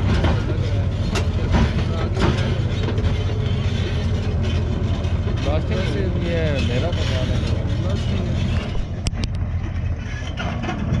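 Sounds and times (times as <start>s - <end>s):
bulldozer diesel engine droning: 0.0s - 11.0s
sharp clanks and knocks: 0.0s - 11.0s
track clatter: 0.0s - 11.0s.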